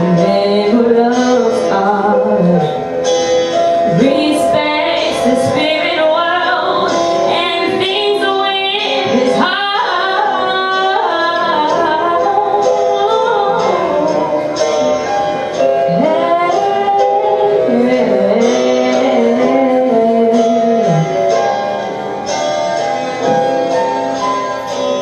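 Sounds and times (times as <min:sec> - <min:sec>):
woman singing ballad: 0:00.0 - 0:21.8.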